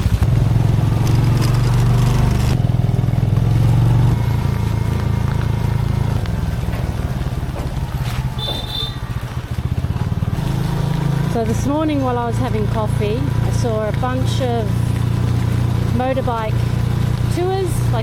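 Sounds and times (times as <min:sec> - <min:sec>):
motorbike engine riding off: 0:00.0 - 0:18.0.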